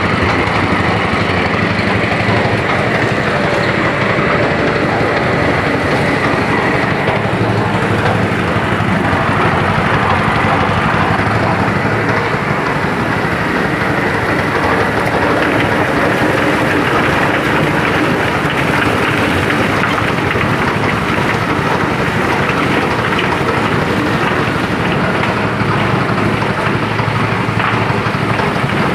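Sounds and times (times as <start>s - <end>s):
feather plucker machine clattering: 0.0s - 28.9s.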